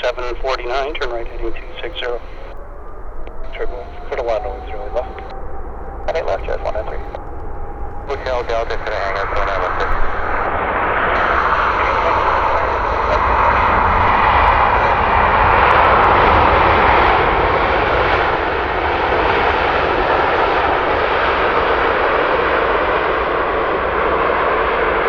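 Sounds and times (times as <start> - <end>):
jet airliner engine rushing: 0.0 - 25.0.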